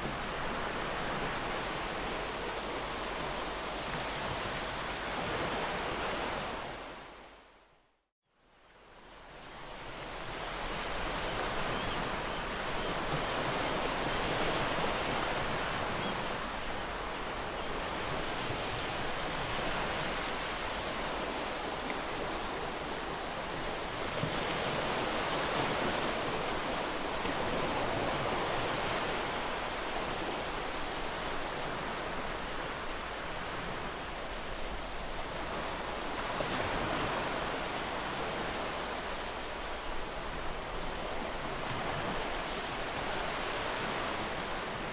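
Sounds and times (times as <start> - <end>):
ocean waves breaking on shore: 0.0 - 7.6, 8.6 - 44.9.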